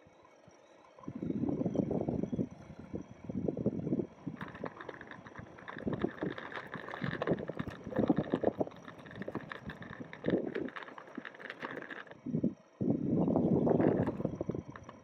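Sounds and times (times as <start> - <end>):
electric motor and drive noise: 0.3 - 15.0
wheels rumbling over pavement: 1.1 - 15.0.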